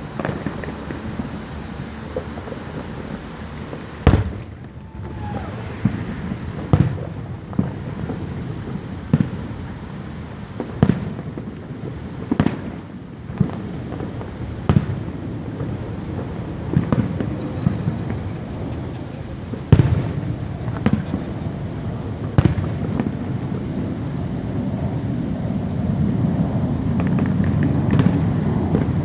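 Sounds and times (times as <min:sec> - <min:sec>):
fireworks booming: 0:00.0 - 0:29.0.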